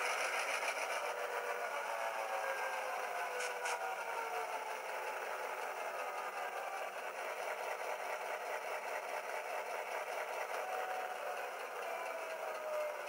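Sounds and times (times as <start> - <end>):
simulated diesel engine from small speaker: 0.0 - 13.0.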